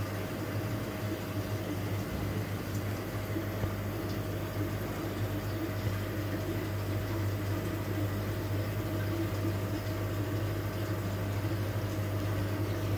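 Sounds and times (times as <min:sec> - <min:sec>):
aquarium air pump humming: 0:00.0 - 0:12.9.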